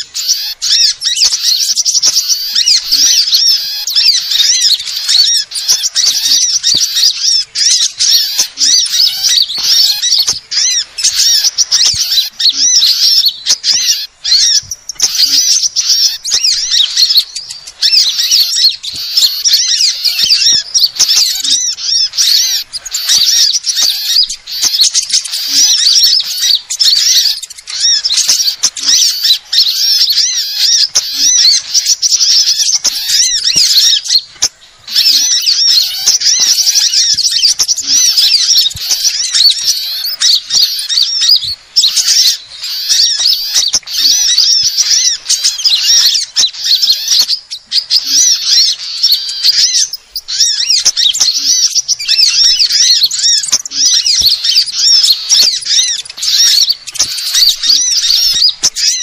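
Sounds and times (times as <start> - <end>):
birds chirping and twittering: 0.0 - 59.0.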